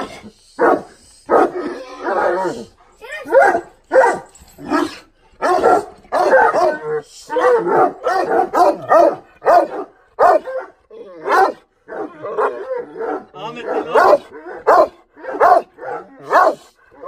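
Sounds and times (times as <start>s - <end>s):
large dog barking: 0.0s - 17.0s.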